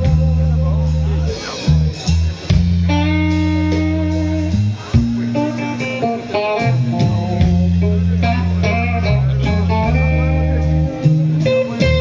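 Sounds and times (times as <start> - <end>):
bass notes: 0.0 - 12.0
guitar melody: 0.0 - 12.0.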